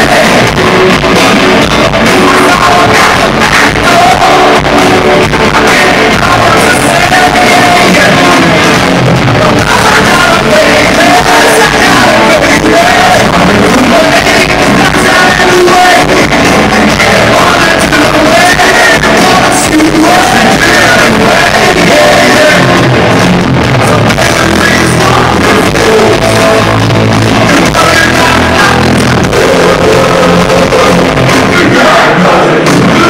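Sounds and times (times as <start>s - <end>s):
person singing and shouting: 0.0s - 23.1s, 23.8s - 33.0s
bass guitar: 0.0s - 33.0s
drums: 0.0s - 33.0s
electric guitars: 0.0s - 33.0s.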